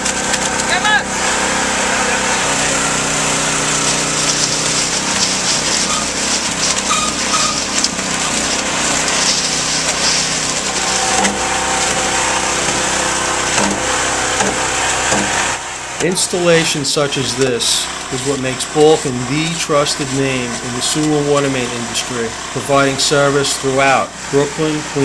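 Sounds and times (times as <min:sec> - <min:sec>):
concrete mixer engine drone: 0:00.0 - 0:25.0
machine hiss: 0:01.4 - 0:25.0.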